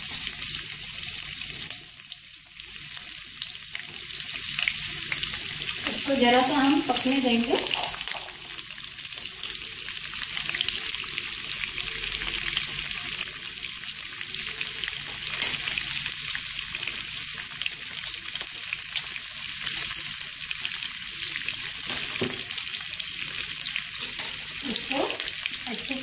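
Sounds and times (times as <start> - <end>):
vegetables sizzling with pops: 0.0 - 26.0.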